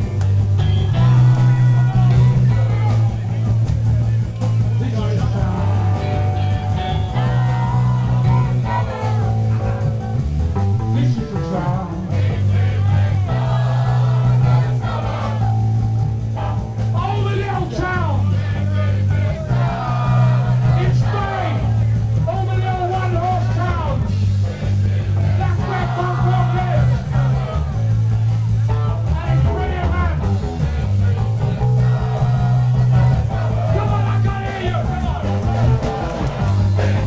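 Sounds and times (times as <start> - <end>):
electric guitar: 0.0 - 17.8, 23.6 - 37.0
repeating bass line: 0.0 - 37.0.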